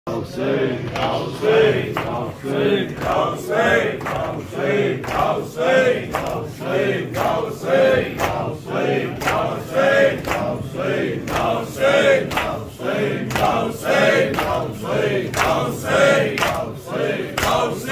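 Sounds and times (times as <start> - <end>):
crowd of men chanting: 0.1 - 17.9.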